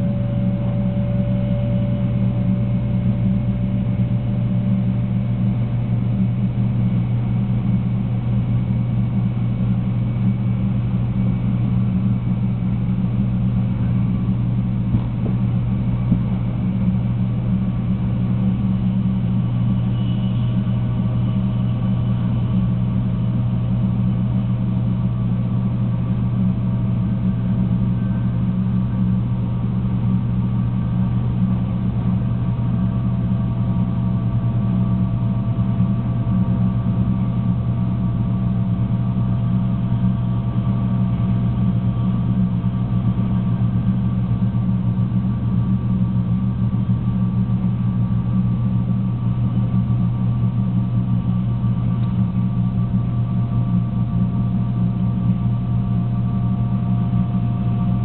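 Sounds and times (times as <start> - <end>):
faint whining tones: 0.0 - 58.0.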